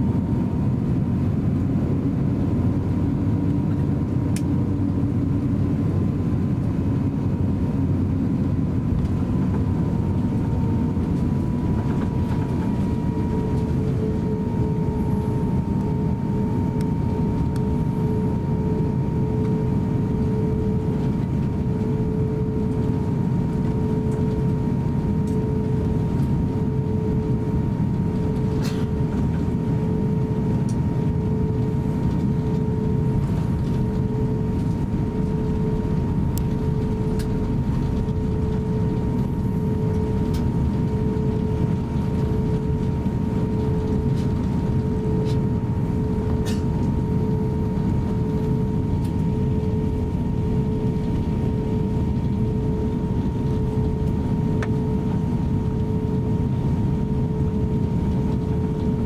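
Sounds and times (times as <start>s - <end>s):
aircraft cabin rumble: 0.0s - 59.0s
constant humming tone: 0.0s - 59.0s.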